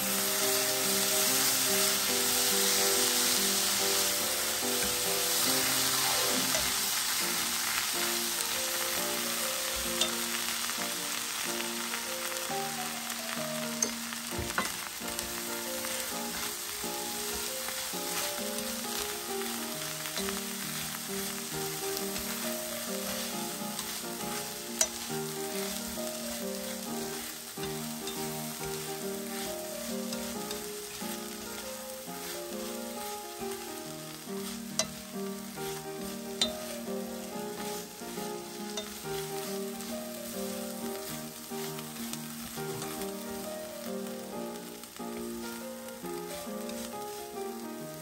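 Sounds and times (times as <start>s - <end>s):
chopsticks tapping a pan: 0.0s - 11.2s, 13.5s - 47.9s
fish sizzling in a frying pan: 0.0s - 48.0s.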